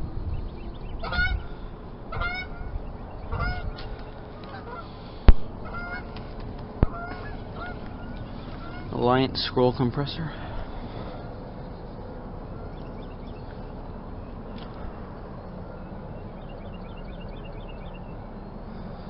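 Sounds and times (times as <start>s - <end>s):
honking bird calls: 0.6s - 19.0s.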